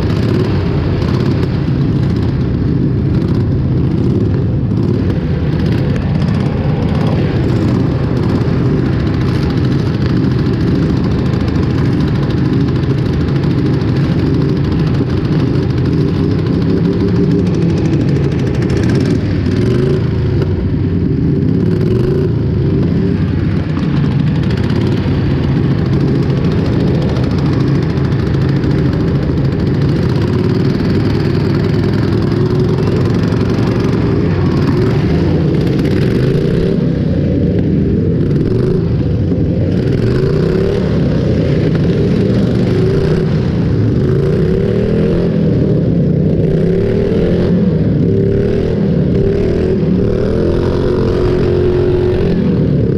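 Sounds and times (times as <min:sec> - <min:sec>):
tractor engines revving: 0:00.0 - 0:52.9.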